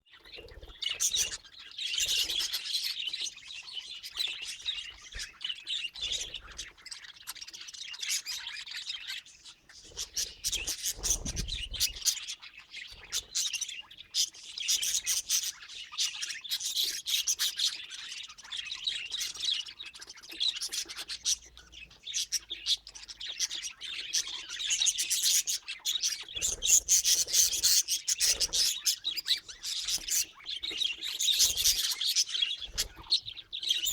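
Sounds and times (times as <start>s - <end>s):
parrots chirping and chattering: 0.1s - 33.9s.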